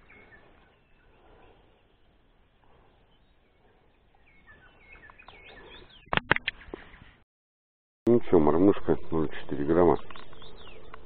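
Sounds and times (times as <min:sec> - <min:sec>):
songbirds chirping: 0:00.0 - 0:07.2, 0:08.1 - 0:11.0.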